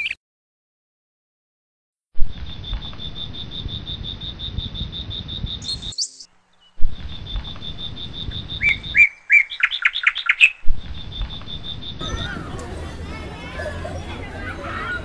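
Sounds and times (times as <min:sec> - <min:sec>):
birds chirping: 0:02.6 - 0:15.0.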